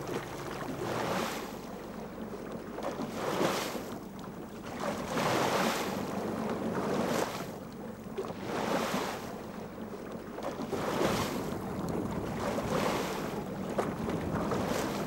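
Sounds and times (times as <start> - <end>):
oars splashing in water: 0.0 - 15.0.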